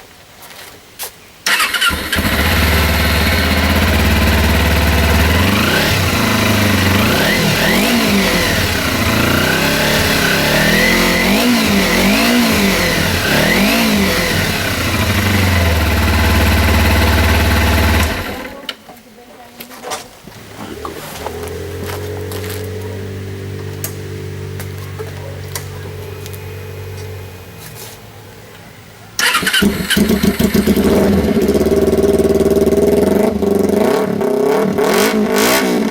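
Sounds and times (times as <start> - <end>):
motorcycle engine idling and revving: 1.5 - 18.6, 20.5 - 35.9.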